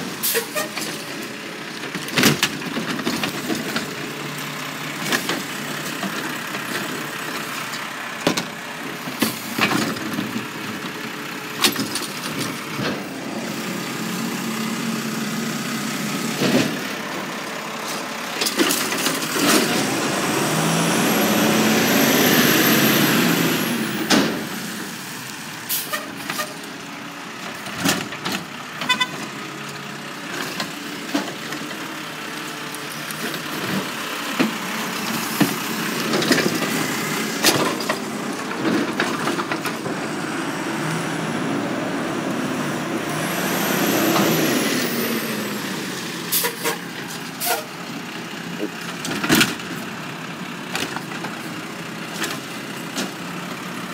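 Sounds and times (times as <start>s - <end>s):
garbage truck engine passing: 0.0s - 53.9s.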